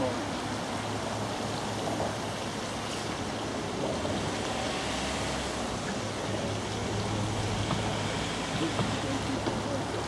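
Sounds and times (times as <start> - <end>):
water rushing along hull: 0.0 - 10.0.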